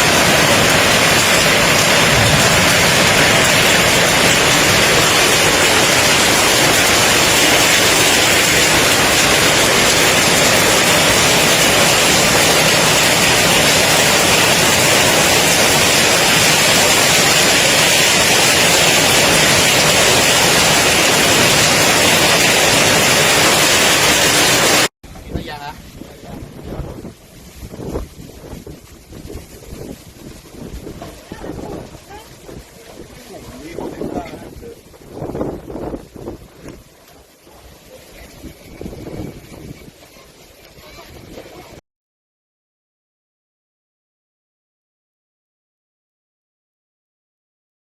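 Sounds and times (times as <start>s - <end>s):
rain: 0.0s - 41.8s
strong wind: 0.0s - 41.8s.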